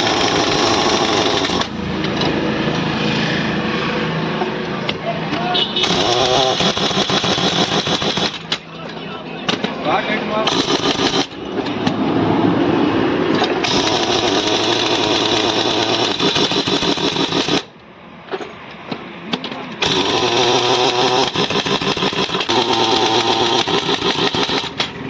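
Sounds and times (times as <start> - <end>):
engine running: 0.0 - 8.8, 10.4 - 17.8, 19.4 - 25.0.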